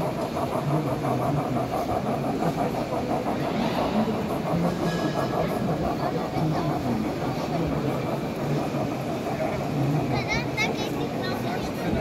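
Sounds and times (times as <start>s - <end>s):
model steam locomotive chuffing: 0.0s - 12.0s
steady mechanical hum: 0.0s - 12.0s.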